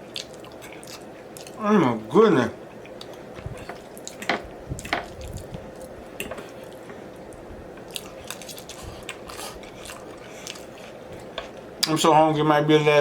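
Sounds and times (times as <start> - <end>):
person chewing and smacking food: 0.0 - 1.6, 2.7 - 12.0.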